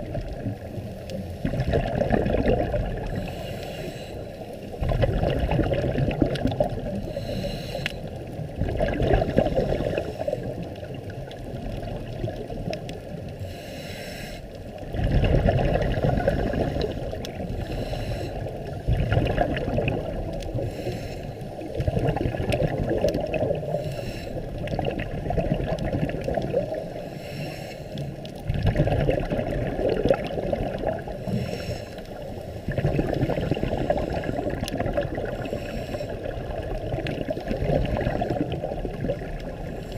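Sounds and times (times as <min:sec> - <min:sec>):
underwater breathing bubbles gurgling: 0:00.0 - 0:39.9.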